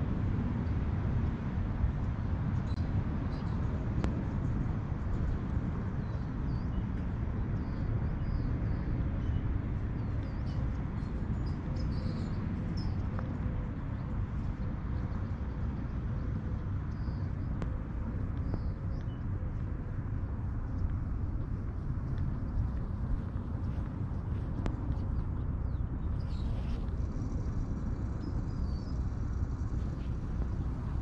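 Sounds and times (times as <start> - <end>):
low outdoor rumble: 0.0 - 31.0
small birds chirping: 6.0 - 31.0.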